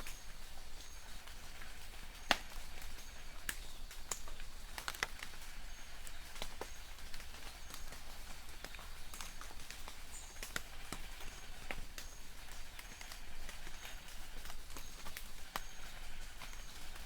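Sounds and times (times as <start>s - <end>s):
distant bird chirps: 0.0s - 17.0s
drops hitting leaves: 0.0s - 17.0s
light rain hiss: 0.0s - 17.0s.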